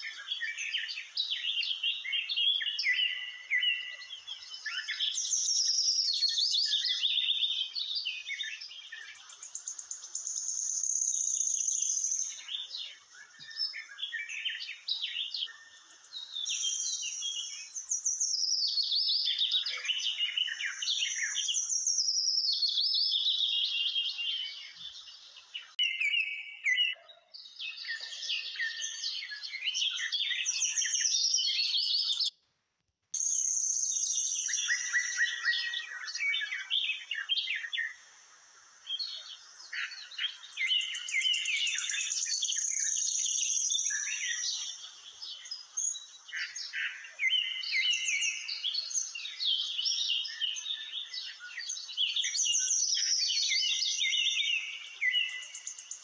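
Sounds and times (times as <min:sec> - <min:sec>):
birds chirping and twittering: 0:00.0 - 0:32.4, 0:33.2 - 0:56.0.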